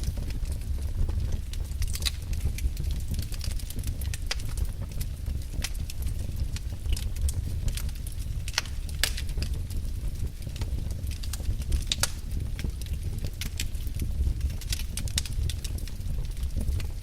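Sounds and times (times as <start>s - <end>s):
fire crackling and popping: 0.0s - 17.0s
fire low rumble: 0.0s - 17.0s.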